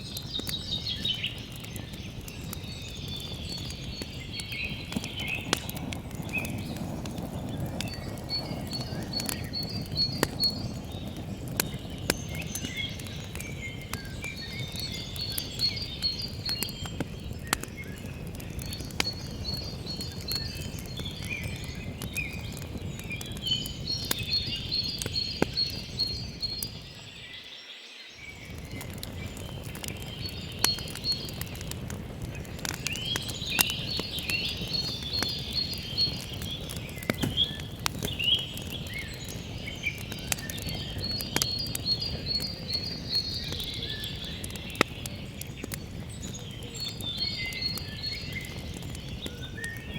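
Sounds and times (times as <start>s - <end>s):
campfire crackling and popping: 0.0s - 27.5s, 28.1s - 49.9s
birds chirping and trilling: 0.1s - 49.9s.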